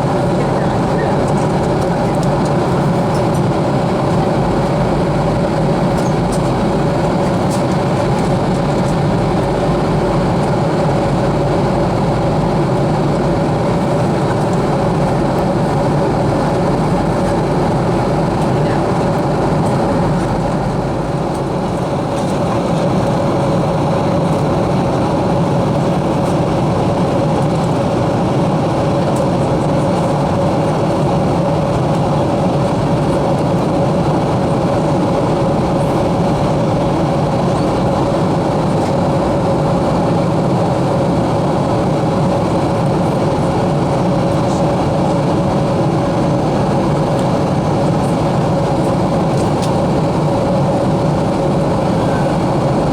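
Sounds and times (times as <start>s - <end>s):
airplane cabin roar: 0.0s - 52.9s
mid-pitched hum: 0.0s - 52.9s.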